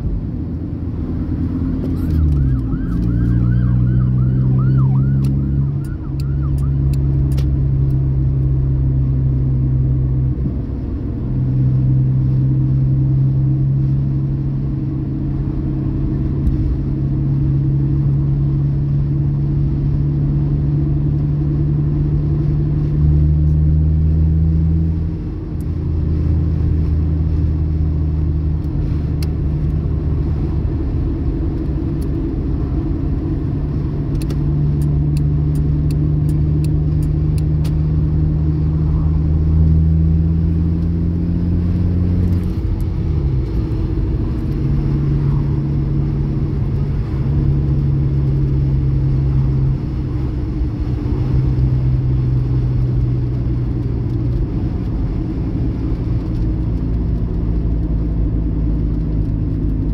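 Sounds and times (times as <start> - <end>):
car engine revving drone: 0.0 - 59.9.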